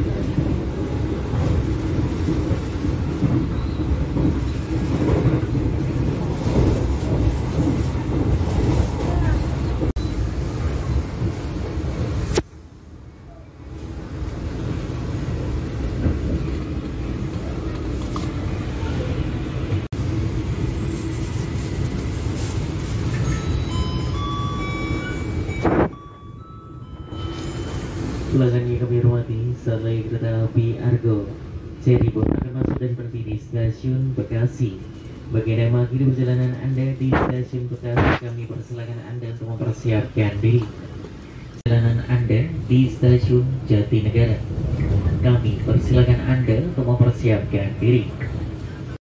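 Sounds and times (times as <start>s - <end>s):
train wheels rumbling on track: 0.0s - 12.6s, 13.3s - 49.0s.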